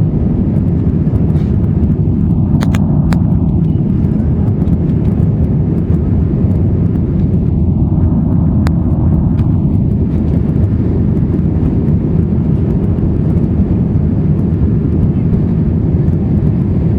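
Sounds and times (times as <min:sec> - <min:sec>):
airliner engines roaring in flight: 0:00.0 - 0:16.9.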